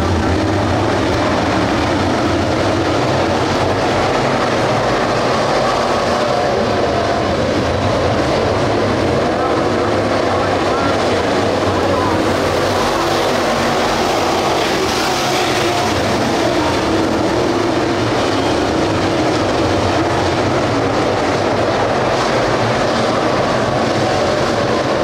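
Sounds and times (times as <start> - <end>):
race car engines droning: 0.0 - 25.0.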